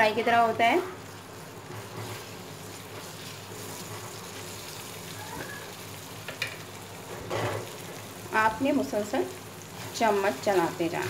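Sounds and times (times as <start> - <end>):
eggs sizzling in oil: 0.0 - 11.0
spatula stirring in pan: 0.3 - 11.0.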